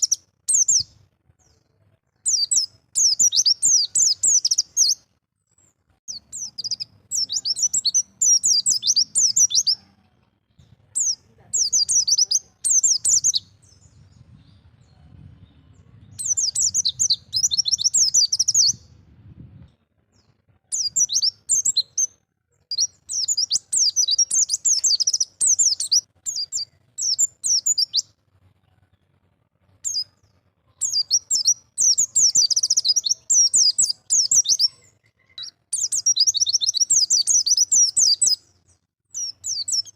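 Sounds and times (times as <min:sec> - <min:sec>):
bird twittering song: 0:00.0 - 0:28.2, 0:29.8 - 0:39.9.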